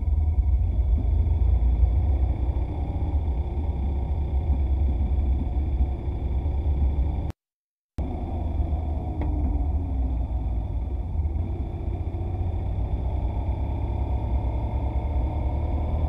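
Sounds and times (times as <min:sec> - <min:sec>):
motorcycle engine rumble: 0:00.0 - 0:07.4, 0:08.0 - 0:16.0.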